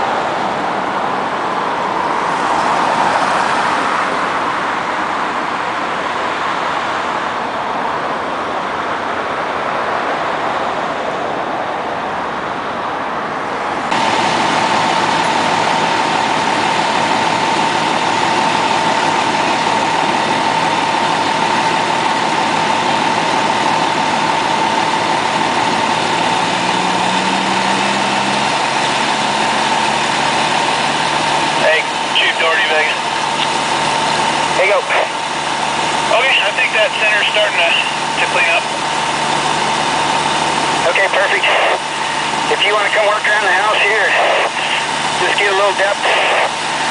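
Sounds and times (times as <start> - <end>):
fire engine high whine: 0.0 - 46.9.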